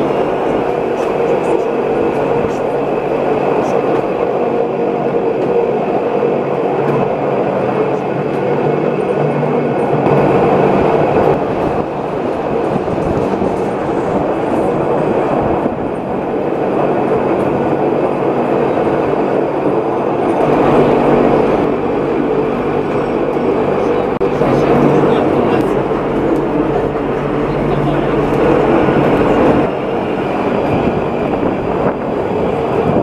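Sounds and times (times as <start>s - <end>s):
railcar wheels and gearing rumble: 0.0s - 33.0s.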